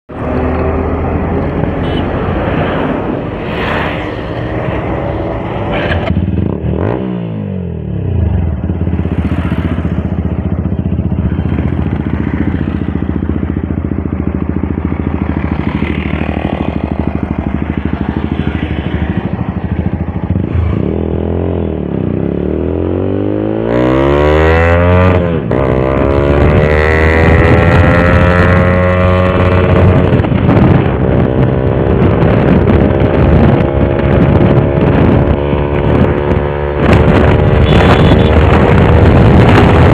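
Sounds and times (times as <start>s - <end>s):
motorcycle engine revving: 0.1s - 39.9s.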